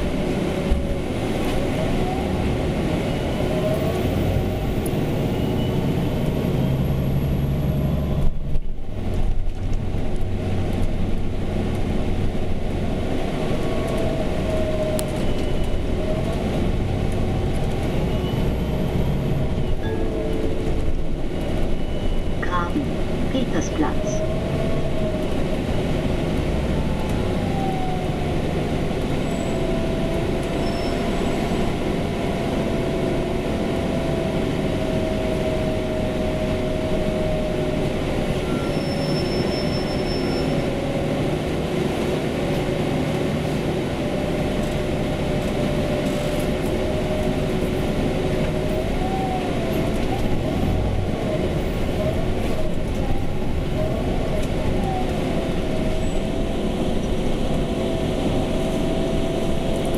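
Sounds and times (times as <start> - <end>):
bus running noise: 0.0 - 59.9.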